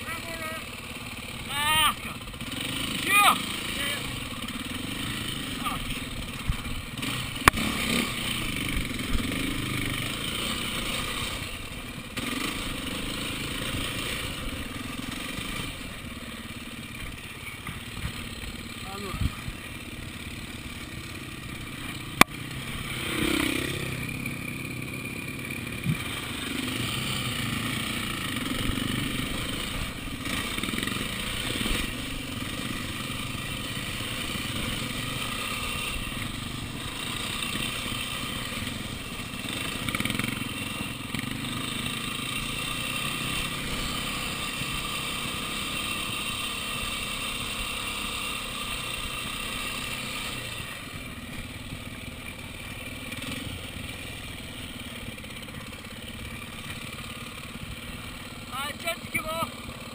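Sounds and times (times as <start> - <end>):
motorcycle engine at low speed: 0.0 - 59.9.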